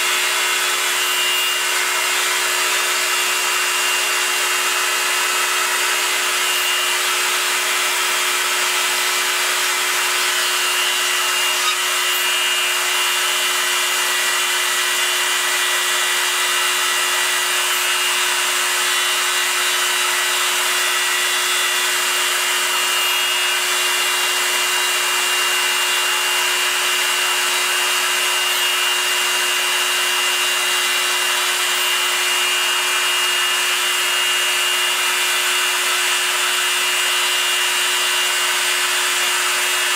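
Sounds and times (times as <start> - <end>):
milling machine spindle whining: 0.0 - 39.9.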